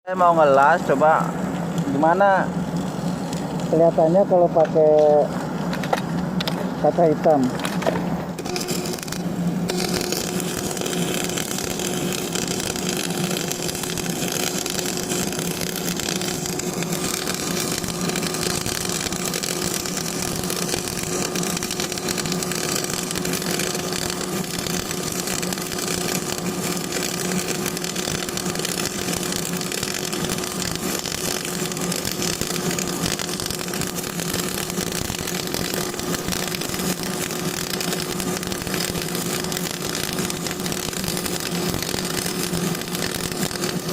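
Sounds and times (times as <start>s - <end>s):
steady low hum: 0.1s - 43.9s
welding arc crackling: 0.1s - 43.9s.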